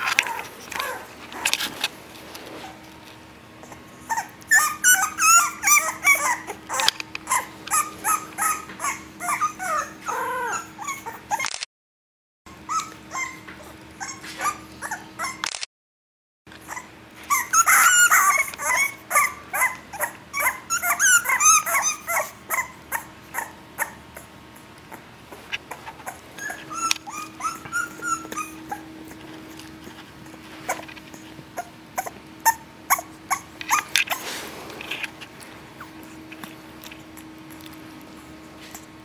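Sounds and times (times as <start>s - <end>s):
puppies whimpering: 0.0s - 1.5s, 3.6s - 11.4s, 12.5s - 15.4s, 16.6s - 24.3s, 24.9s - 38.9s.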